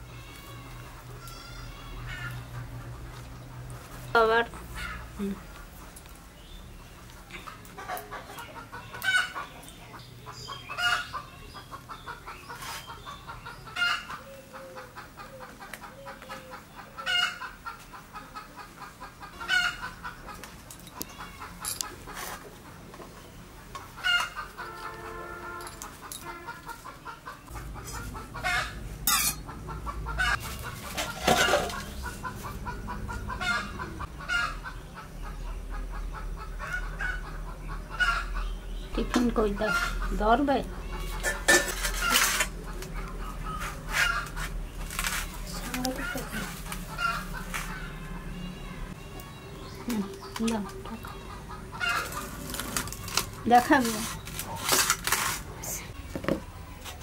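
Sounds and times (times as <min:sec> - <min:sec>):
chickens clucking: 0:02.1 - 0:57.0.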